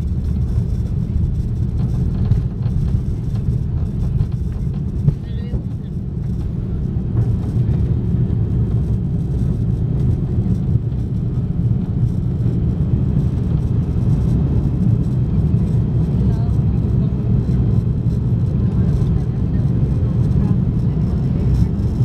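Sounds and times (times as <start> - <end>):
jet engines and airflow rumbling: 0.0 - 22.0.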